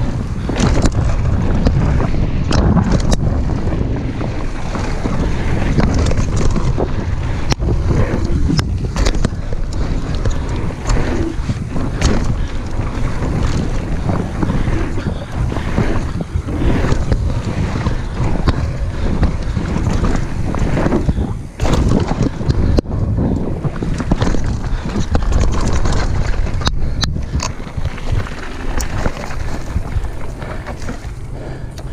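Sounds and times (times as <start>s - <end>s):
bike rattling and knocking: 0.0s - 31.9s
wind rushing over microphone: 0.0s - 31.9s.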